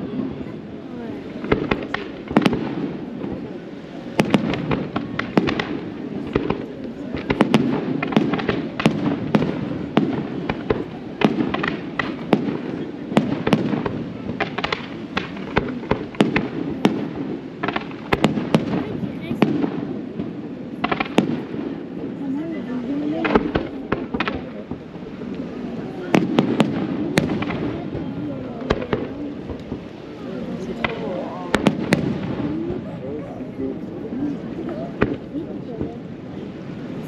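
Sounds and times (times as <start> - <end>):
fireworks bangs and crackles: 0.0 - 37.0
low murmur: 0.0 - 37.0.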